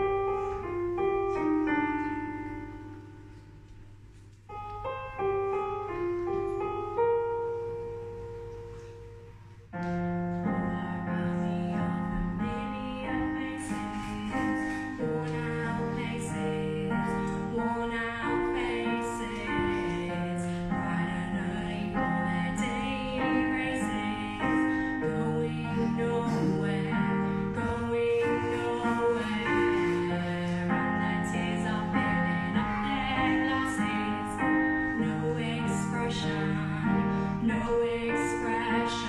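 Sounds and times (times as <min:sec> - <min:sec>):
piano playing solo: 0:00.0 - 0:39.0.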